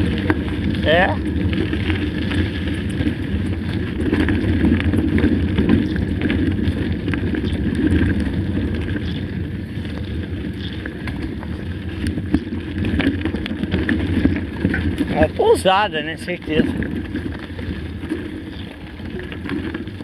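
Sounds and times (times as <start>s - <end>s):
bike clicks and rattles: 0.0s - 20.0s
tyres rumbling on track: 0.0s - 20.0s
wind rushing over microphone: 0.0s - 20.0s.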